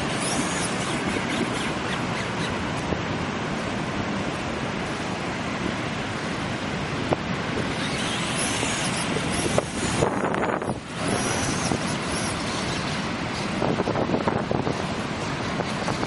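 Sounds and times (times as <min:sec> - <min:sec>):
ocean surf: 0:00.0 - 0:16.0
wind on microphone: 0:00.0 - 0:16.0.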